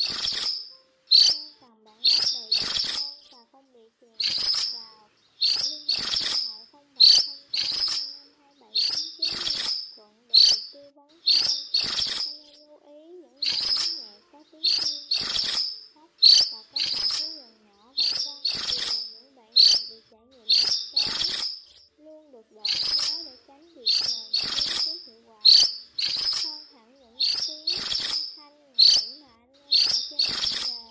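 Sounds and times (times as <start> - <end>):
bird rattling flock calls: 0.0 - 3.4, 4.1 - 12.6, 13.3 - 21.8, 22.5 - 30.9.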